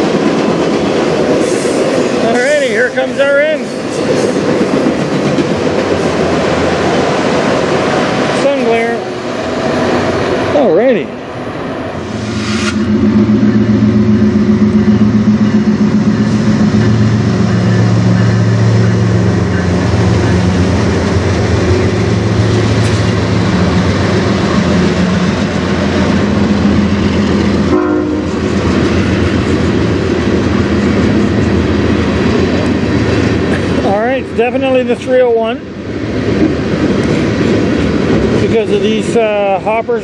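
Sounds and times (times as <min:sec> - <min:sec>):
train wheels clacking on rails: 0:00.0 - 0:10.9, 0:12.7 - 0:40.0
diesel locomotive drone: 0:00.0 - 0:40.0.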